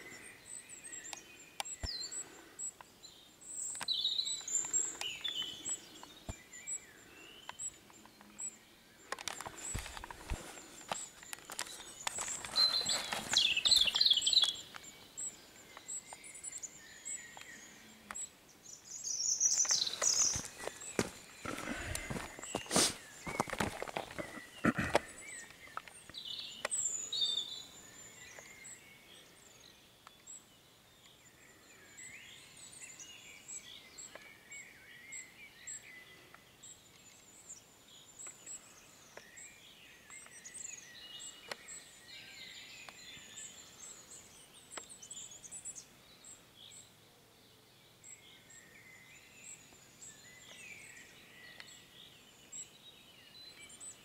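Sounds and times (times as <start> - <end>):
faint birdsong chirps: 0.0 - 54.0.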